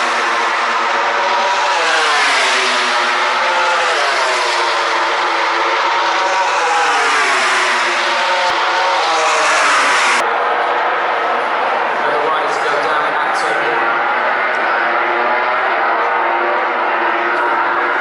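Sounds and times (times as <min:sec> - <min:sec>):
racing motorcycles passing: 0:00.0 - 0:10.3, 0:11.7 - 0:18.0.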